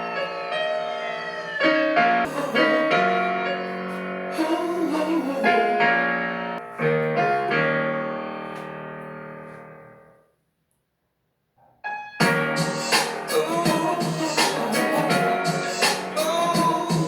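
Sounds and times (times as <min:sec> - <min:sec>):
piano chords ringing: 0:00.0 - 0:10.3, 0:11.8 - 0:17.0.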